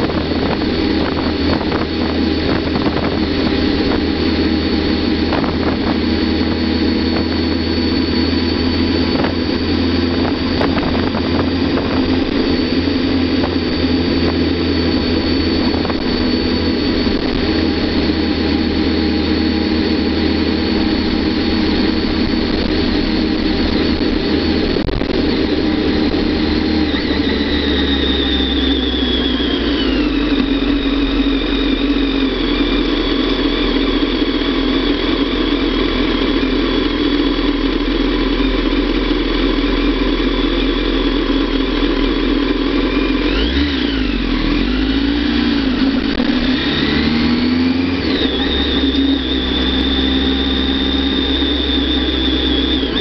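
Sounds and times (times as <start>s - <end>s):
high whine: 0.0s - 53.0s
motorcycle engine running: 0.0s - 53.0s.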